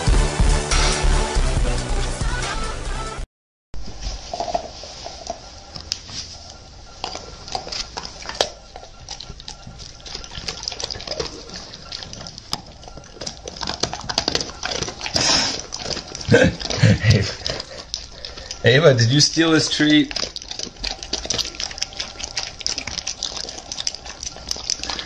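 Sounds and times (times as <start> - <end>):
dog licking and sniffing: 4.0 - 25.0.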